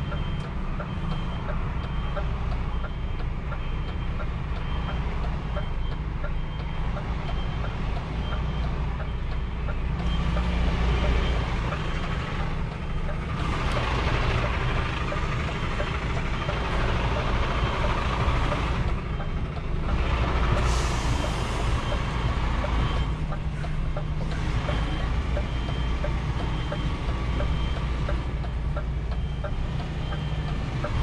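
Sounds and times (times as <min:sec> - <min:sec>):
truck diesel engine running: 0:00.0 - 0:31.0.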